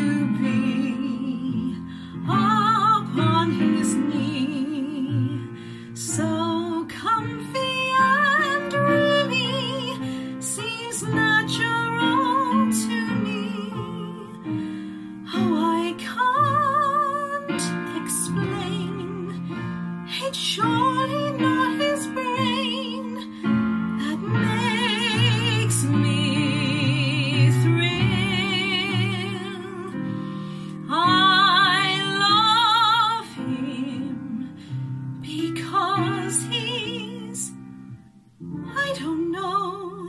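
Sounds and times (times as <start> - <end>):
woman singing a ballad: 0.0 - 40.0.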